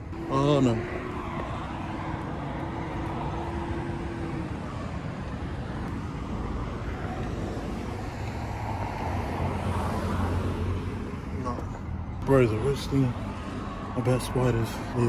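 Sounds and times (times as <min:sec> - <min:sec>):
traffic and road noise: 0:00.0 - 0:15.0.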